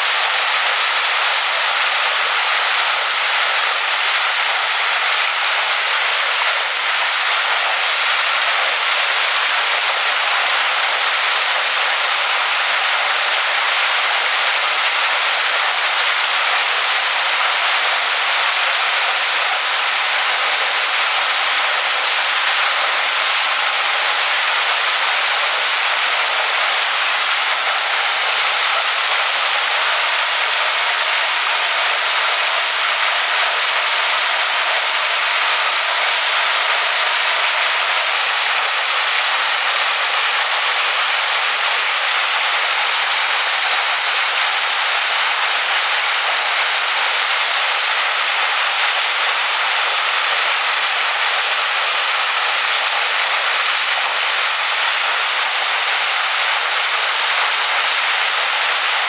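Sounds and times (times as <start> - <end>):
waterfall splashing onto rocks: 0.0 - 59.0.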